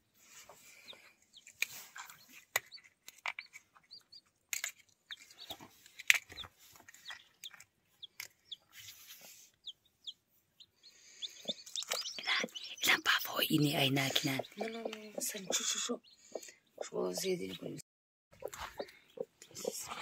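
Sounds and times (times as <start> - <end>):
chicks peeping: 0.3 - 4.4, 5.1 - 17.8, 18.4 - 20.0.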